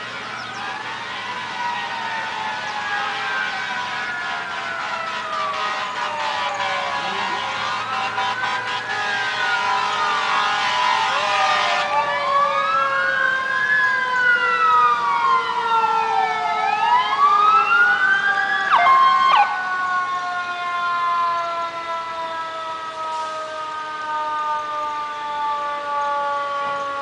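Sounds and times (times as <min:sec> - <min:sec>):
fire engine siren wailing: 0:00.0 - 0:27.0
steady siren tones: 0:00.0 - 0:27.0.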